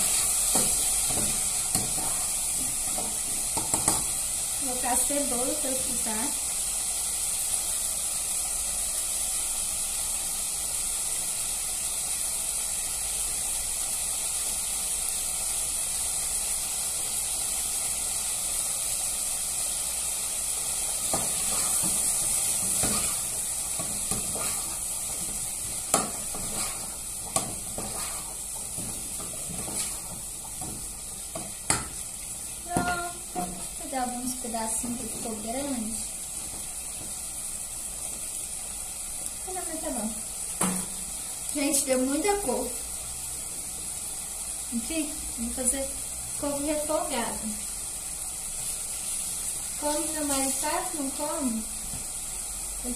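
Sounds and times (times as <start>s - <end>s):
meat and onion sizzling in pan: 0.0s - 52.9s.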